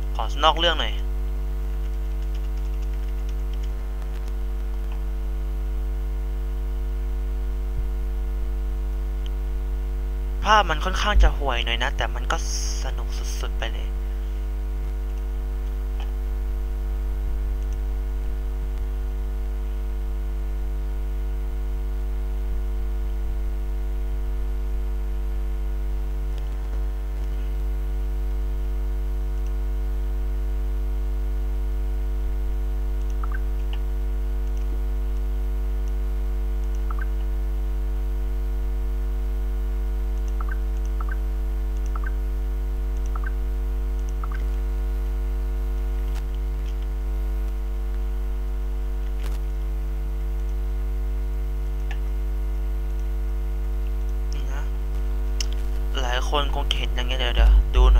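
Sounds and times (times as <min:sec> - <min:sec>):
electrical mains hum: 0:00.0 - 0:57.9.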